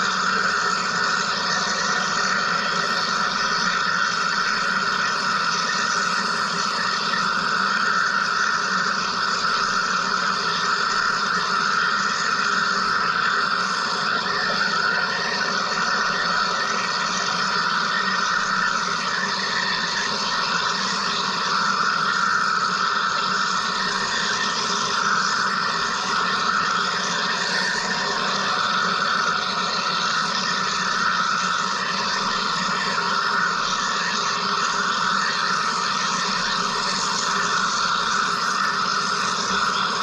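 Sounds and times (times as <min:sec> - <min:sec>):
machine hiss and buzz: 0:00.0 - 0:40.0.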